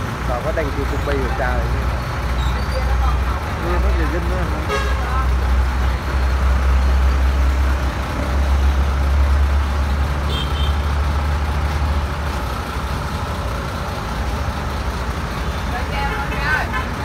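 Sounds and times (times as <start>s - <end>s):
diesel engine idling: 0.0s - 17.0s
road traffic: 0.0s - 17.0s.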